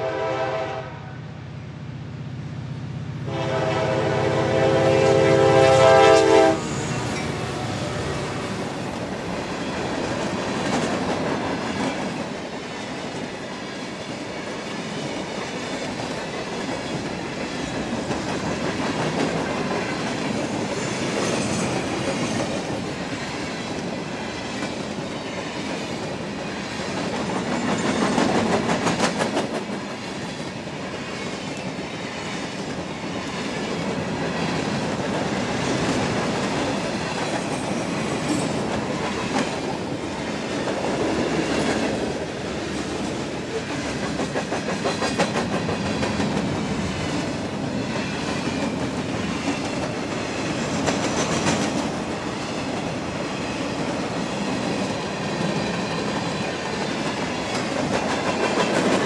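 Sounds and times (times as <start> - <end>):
freight train wheels rumbling: 2.2 - 59.0
clickety-clack over rail joints: 8.5 - 59.0.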